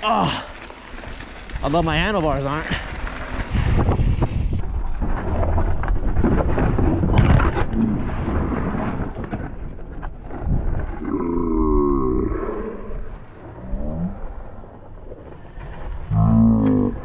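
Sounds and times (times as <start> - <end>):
wind and tyre rumble: 0.0 - 17.0.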